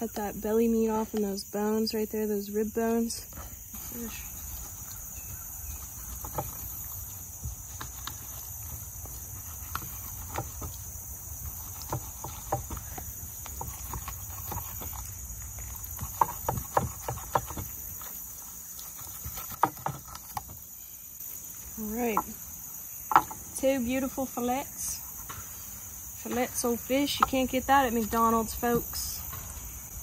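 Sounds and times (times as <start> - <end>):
high insect buzz: 0.0 - 30.0.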